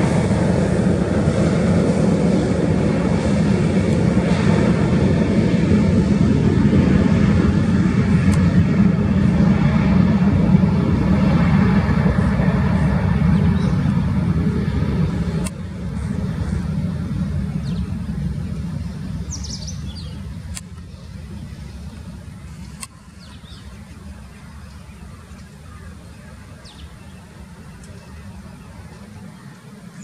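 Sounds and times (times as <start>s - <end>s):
jet engines low rumble: 0.0s - 30.0s.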